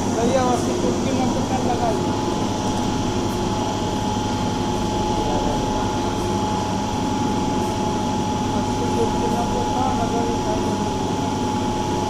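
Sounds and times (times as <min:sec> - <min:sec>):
constant high whine: 0:00.0 - 0:12.0.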